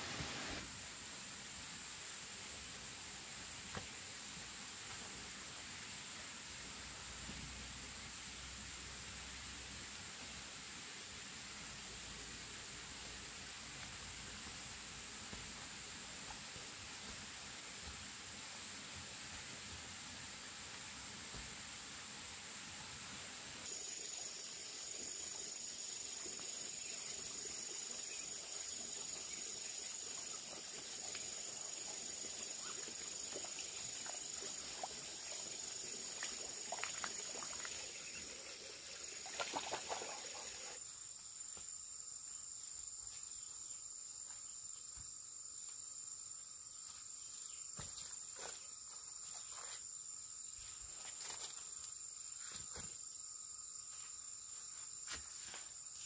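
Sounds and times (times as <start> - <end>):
insect drone: 0.0 - 56.0
insects pulsing chirp: 0.0 - 56.0.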